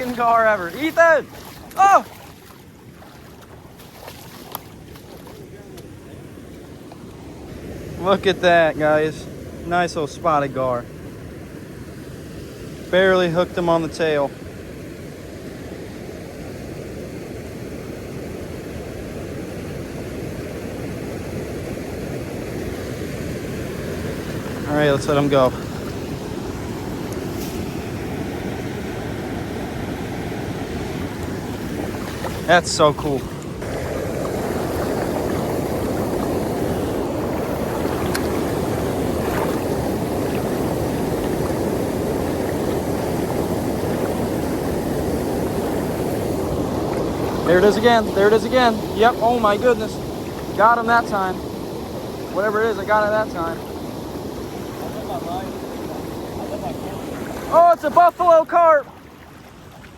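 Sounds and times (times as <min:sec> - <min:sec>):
river water rushing over dam: 0:00.0 - 0:59.9.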